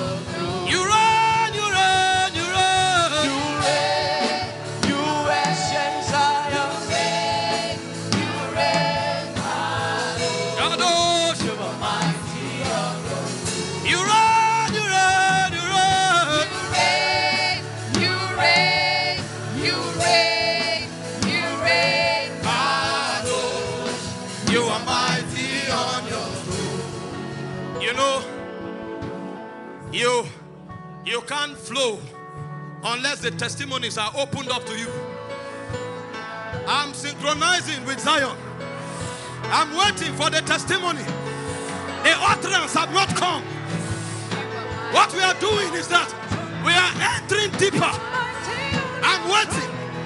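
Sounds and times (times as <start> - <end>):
voices singing gospel music: 0.0 - 29.6, 35.4 - 50.0
instrumental backing: 0.0 - 50.0.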